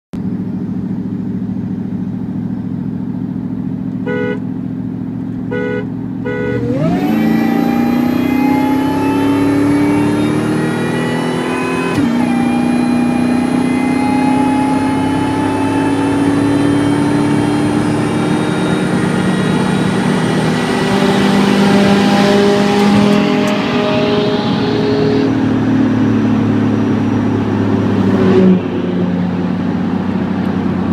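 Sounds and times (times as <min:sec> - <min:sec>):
vehicle engine: 0:00.2 - 0:30.9.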